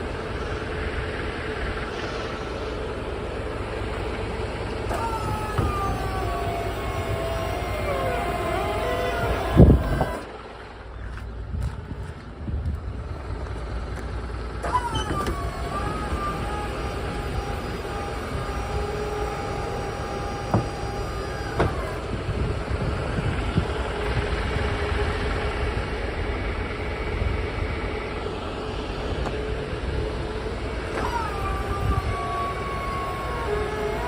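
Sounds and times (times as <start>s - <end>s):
mechanical whine: 0.0s - 34.0s
truck engine low rumble: 0.0s - 34.0s.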